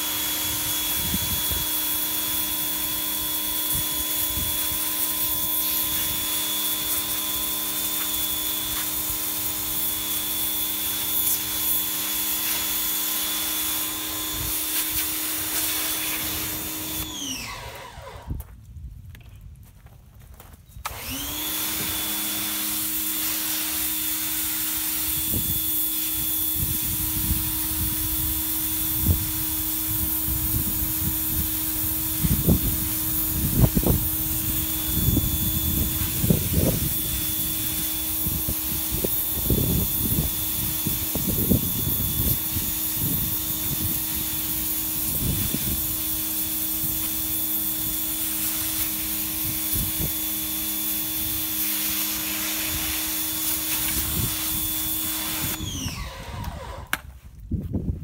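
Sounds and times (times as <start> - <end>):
spray hissing on wood: 0.0 - 17.1, 21.2 - 55.6
pressure washer running: 0.0 - 18.3, 20.9 - 57.0.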